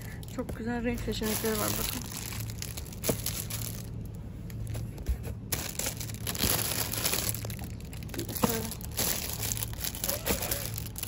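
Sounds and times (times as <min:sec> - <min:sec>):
plastic wrapping crinkling: 0:00.0 - 0:11.0
steady low hum: 0:00.0 - 0:11.0.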